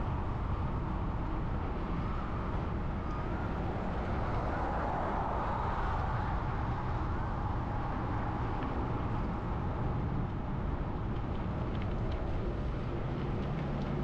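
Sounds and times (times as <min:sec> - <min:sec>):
roadside traffic: 0:00.0 - 0:14.0.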